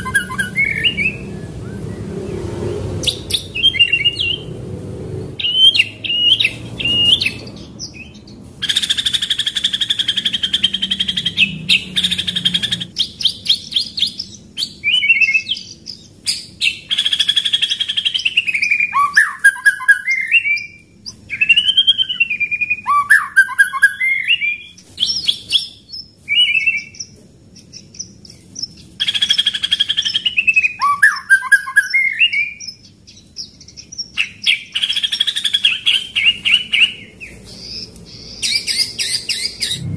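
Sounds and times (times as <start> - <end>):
songbird singing trills and whistles: 0.0 - 4.5, 5.4 - 39.9.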